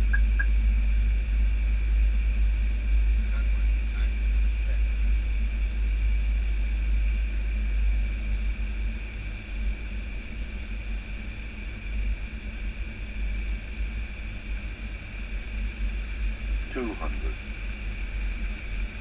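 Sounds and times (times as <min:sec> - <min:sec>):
airflow and engine rumble: 0:00.0 - 0:19.0
steady high whine: 0:00.0 - 0:19.0.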